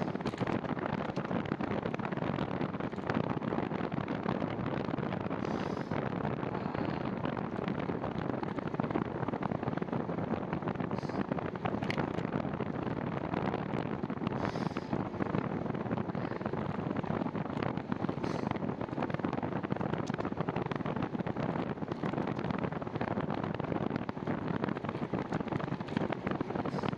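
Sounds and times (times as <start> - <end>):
wind on microphone: 0.0 - 26.9.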